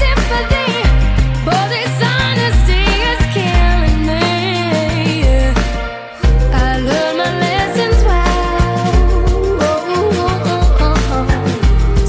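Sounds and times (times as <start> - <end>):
person singing: 0.0 - 12.0
pulsing bass line: 0.0 - 12.0.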